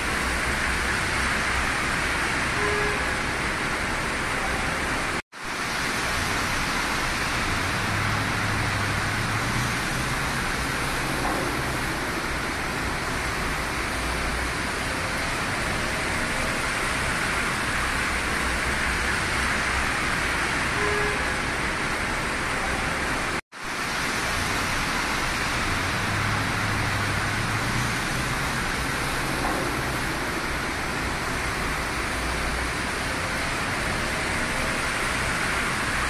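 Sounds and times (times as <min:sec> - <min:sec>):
heavy rain on car roof: 0:03.2 - 0:36.0.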